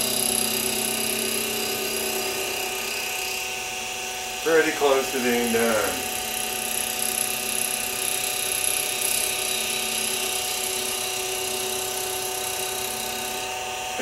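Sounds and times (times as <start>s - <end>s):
milling machine cutting metal: 0.0s - 14.0s.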